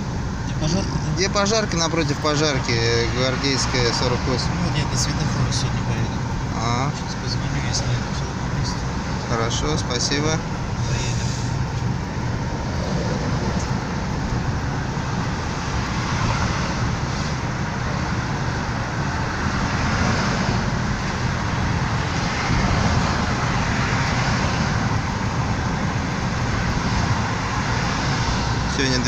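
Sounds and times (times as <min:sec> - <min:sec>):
car engine hum: 0:00.0 - 0:29.0
tyre road noise: 0:00.0 - 0:29.0.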